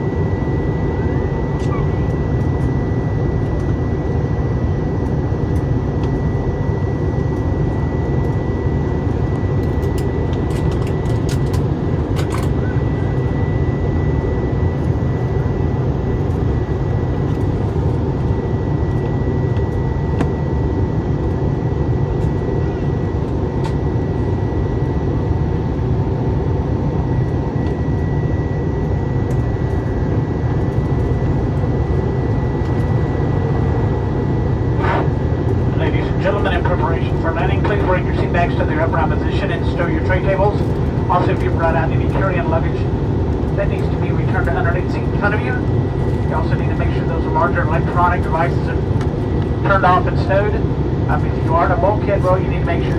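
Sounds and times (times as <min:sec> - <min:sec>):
airflow and engine drone: 0:00.0 - 0:52.9
thin steady whine: 0:00.0 - 0:52.9.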